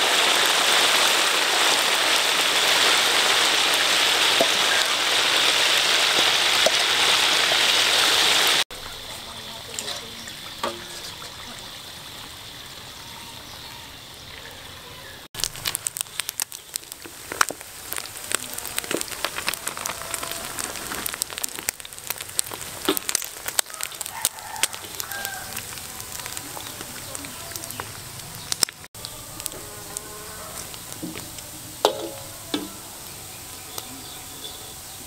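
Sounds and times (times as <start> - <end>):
deep-frying sizzle with pops: 0.0 - 14.2, 15.2 - 35.0.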